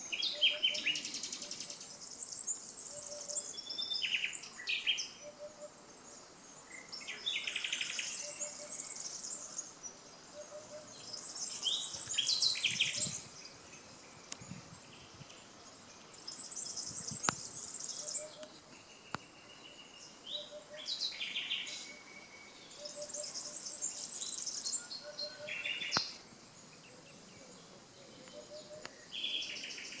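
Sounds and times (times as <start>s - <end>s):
nightingale singing: 0.0s - 5.8s, 6.6s - 30.0s.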